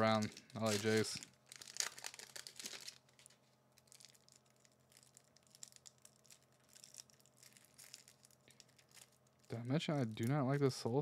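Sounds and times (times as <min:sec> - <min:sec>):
cellophane crinkling: 0:00.0 - 0:11.0
low room hum: 0:00.0 - 0:11.0.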